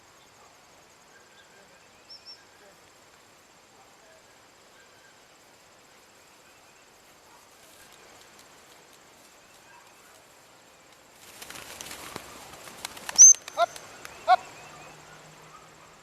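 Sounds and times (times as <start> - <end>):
insect trill: 0.0 - 16.0.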